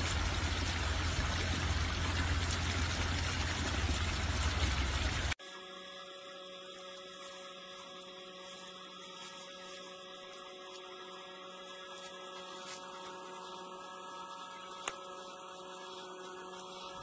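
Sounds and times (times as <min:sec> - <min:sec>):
steady hum with hiss: 0:00.0 - 0:17.0.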